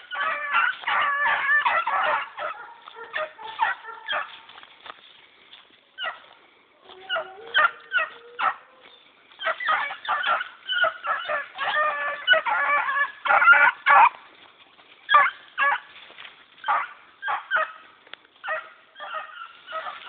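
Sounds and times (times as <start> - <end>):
hound pups baying: 0.0 - 4.7, 5.9 - 20.0.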